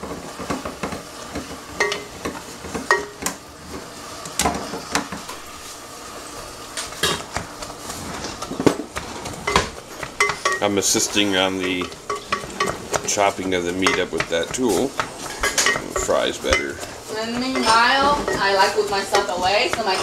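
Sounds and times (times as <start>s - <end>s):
meat sizzling in a pot: 0.0s - 20.0s.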